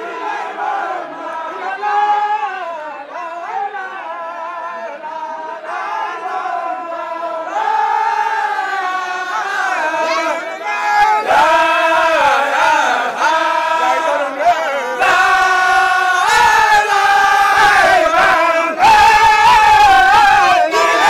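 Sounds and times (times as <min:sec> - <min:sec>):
group of voices chanting: 0:00.0 - 0:21.0.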